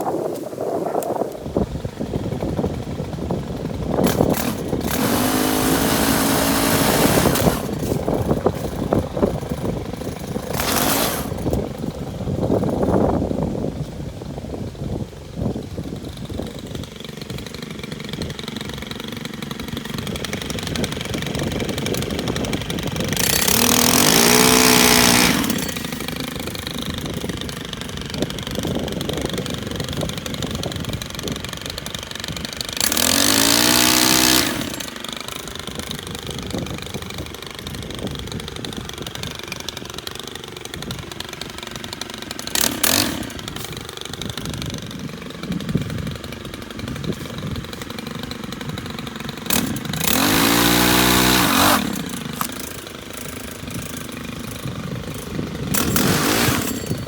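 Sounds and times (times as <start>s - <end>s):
pole saw engine idling and revving: 0.0s - 57.0s.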